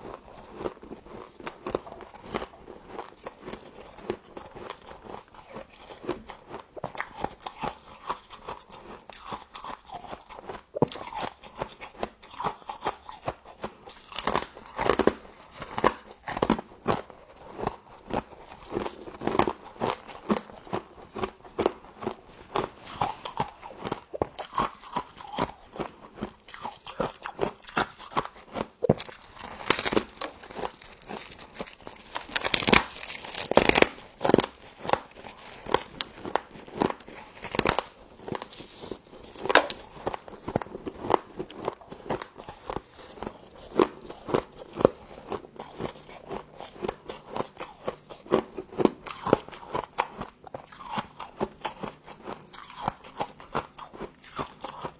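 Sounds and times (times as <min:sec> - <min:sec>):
chewing with sharp crunches: 0:00.0 - 0:54.9.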